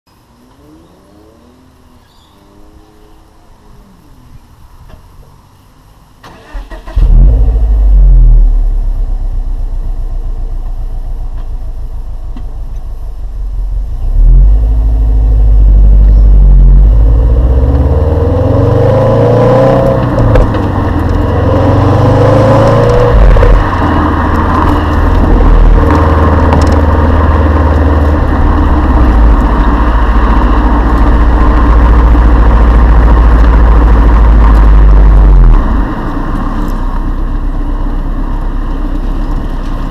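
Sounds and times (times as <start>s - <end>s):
car engine starting and revving: 6.2s - 39.9s.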